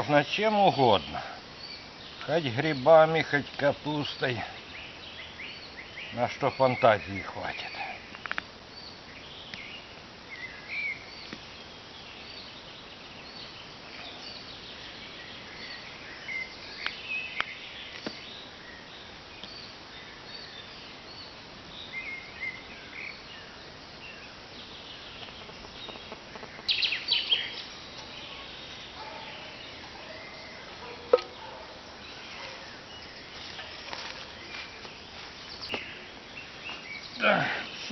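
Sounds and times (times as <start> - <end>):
outdoor background hiss: 0.0 - 37.9
woodland birds chirping: 0.0 - 37.9.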